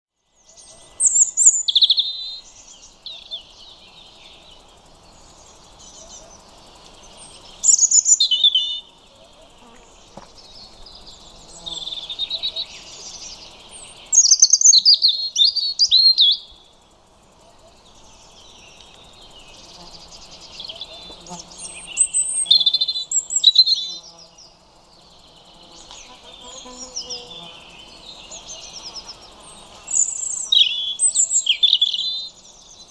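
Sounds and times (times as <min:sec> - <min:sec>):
faint background noise: 0:00.1 - 0:32.9
robin singing: 0:00.4 - 0:32.9.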